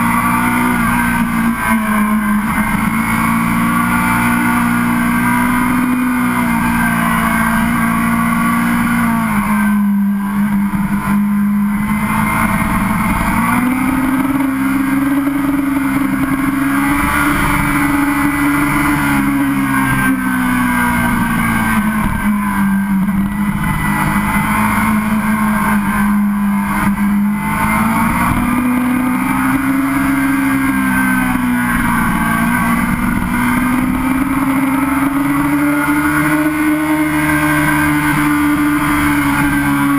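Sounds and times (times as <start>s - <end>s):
motorcycle engine cruising: 0.0s - 39.9s
steady rushing noise: 0.0s - 39.9s.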